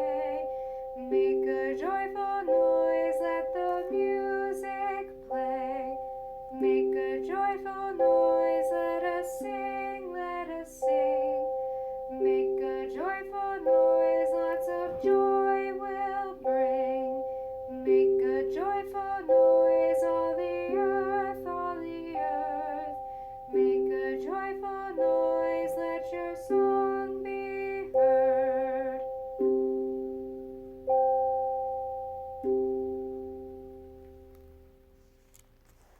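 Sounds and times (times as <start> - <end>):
sustained chords: 0.0 - 35.0
wavering melody line: 0.0 - 35.1.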